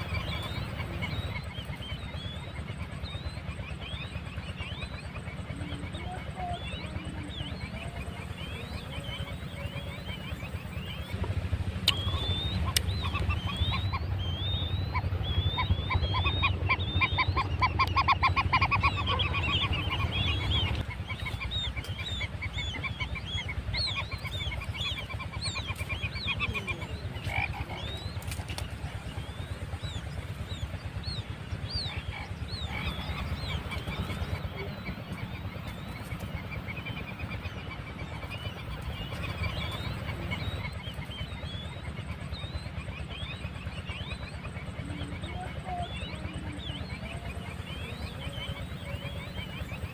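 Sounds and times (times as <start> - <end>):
low rumble: 0.0 - 49.9
quail chicks peeping: 0.0 - 49.9.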